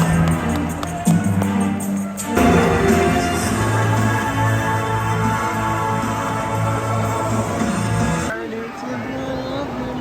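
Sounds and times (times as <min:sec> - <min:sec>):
background music with pulsing bass: 0:00.0 - 0:08.3.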